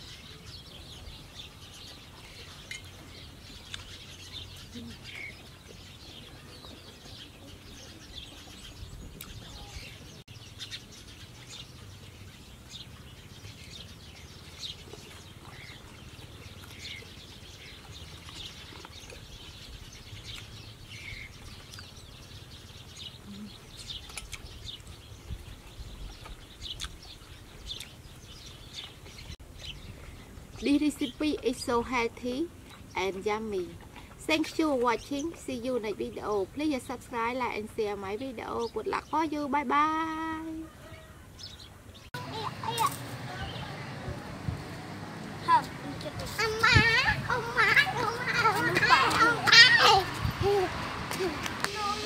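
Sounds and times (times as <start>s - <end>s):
faint outdoor background noise: 0.0s - 52.0s
small birds chirping: 0.0s - 52.0s.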